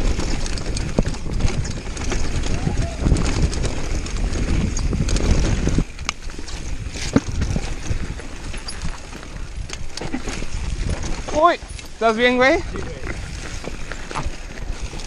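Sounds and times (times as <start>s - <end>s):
bike clattering over rough ground: 0.0s - 15.0s
tyre rumble: 0.0s - 15.0s
wind noise on microphone: 0.0s - 15.0s.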